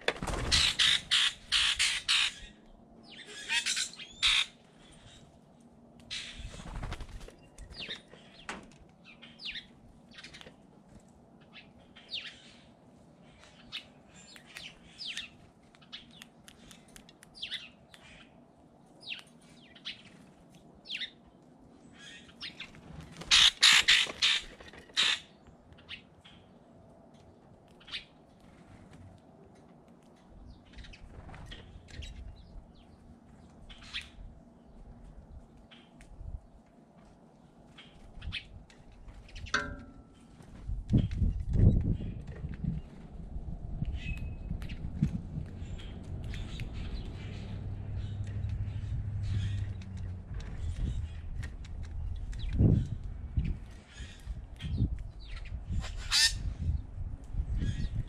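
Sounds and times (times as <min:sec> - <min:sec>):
small birds chirping: 0:00.4 - 0:28.6, 0:29.5 - 0:39.8, 0:40.6 - 0:58.0.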